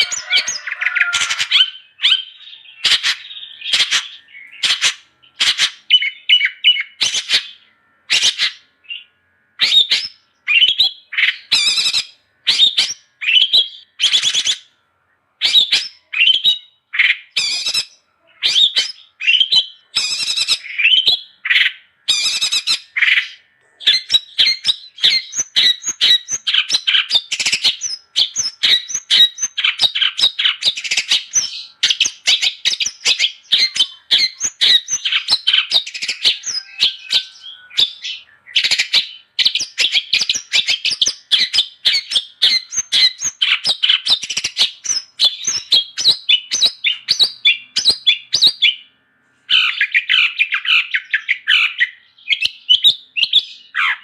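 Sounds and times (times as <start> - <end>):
shrike singing harsh chattering notes: 0.0 - 14.8, 15.4 - 48.9.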